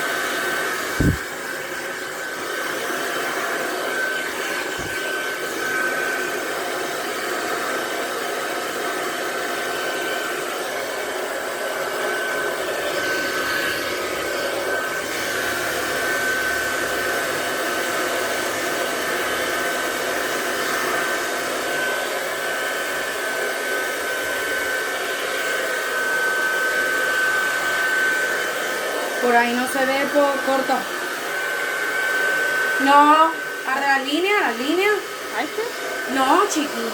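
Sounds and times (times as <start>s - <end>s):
hair dryer blowing air: 0.0s - 36.9s.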